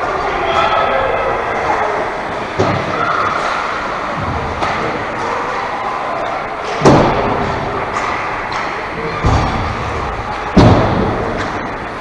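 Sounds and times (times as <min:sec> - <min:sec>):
game noise in large hall: 0:00.0 - 0:12.0.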